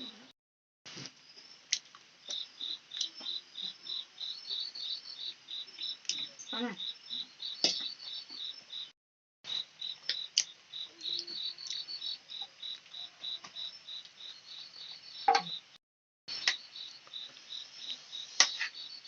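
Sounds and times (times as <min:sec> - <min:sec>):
crickets chirping: 0:01.2 - 0:08.9, 0:09.5 - 0:19.0.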